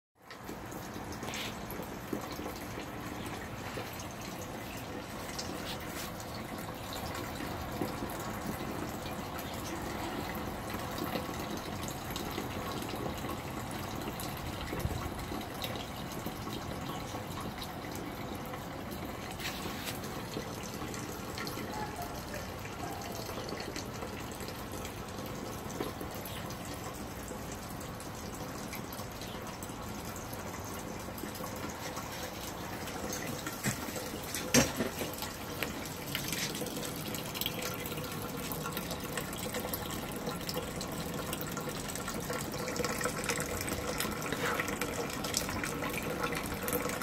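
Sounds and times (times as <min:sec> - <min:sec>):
running water rushing: 0:00.3 - 0:47.0.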